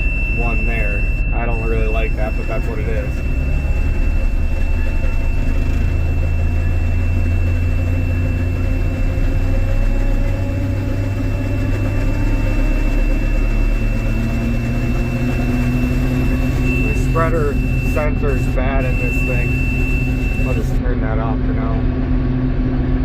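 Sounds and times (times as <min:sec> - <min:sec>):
thin high tone: 0:00.0 - 0:20.9
combine harvester engine drone: 0:00.0 - 0:23.0
faint rising whine: 0:00.0 - 0:23.0.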